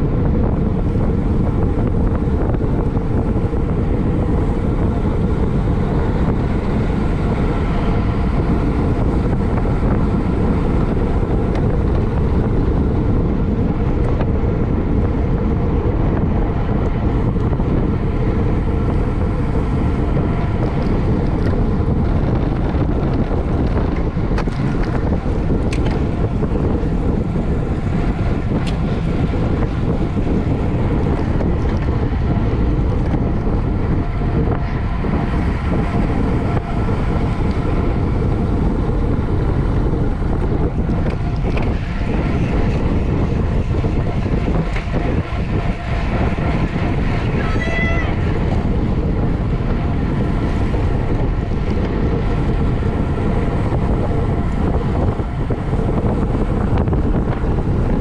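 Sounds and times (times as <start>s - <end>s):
road and tyre noise: 0.0s - 58.0s
wind buffeting microphone: 0.0s - 58.0s.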